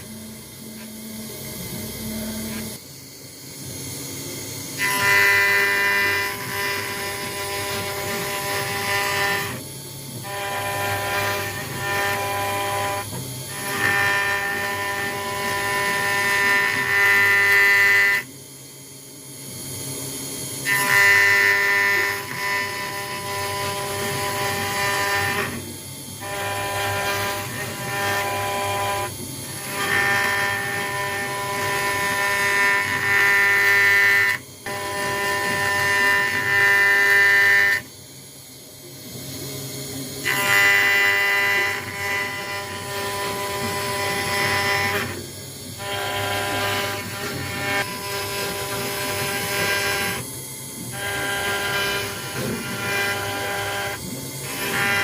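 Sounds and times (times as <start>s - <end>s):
cnc router motors whining: 0.0s - 55.0s.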